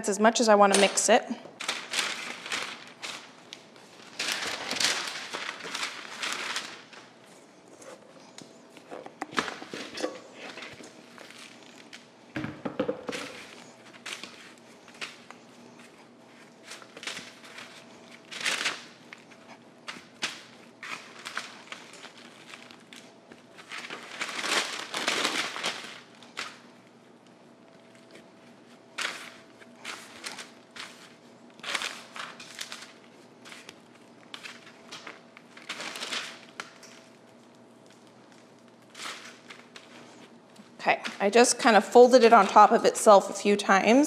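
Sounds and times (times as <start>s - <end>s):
parchment paper crinkling: 1.6s - 12.2s, 13.2s - 43.1s.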